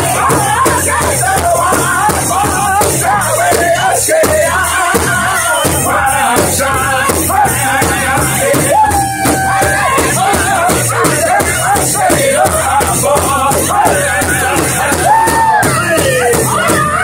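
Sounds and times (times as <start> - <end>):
bass drum beaten in unison: 0.0 - 17.0
men singing together: 0.0 - 17.0.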